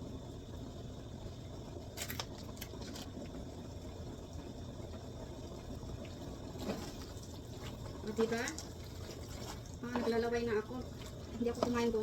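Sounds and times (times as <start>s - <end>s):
sauce simmering in a pan: 0.0s - 12.0s.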